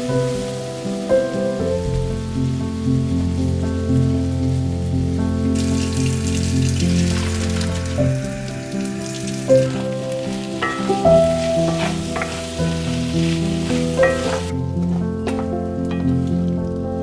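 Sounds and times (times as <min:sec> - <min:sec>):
gentle instrumental music: 0:00.0 - 0:17.0
steady high hiss: 0:00.0 - 0:17.0.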